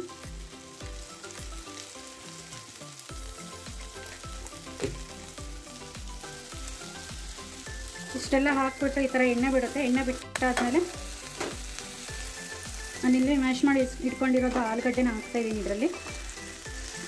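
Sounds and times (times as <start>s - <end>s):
faint background music beat: 0.0s - 17.0s
masala sizzling in oil: 0.0s - 17.0s.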